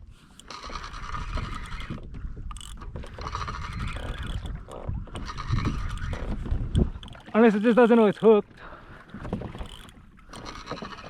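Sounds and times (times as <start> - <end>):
water and hull rumble: 0.0 - 11.0
fishing reel clicking: 0.2 - 8.4, 9.4 - 11.0.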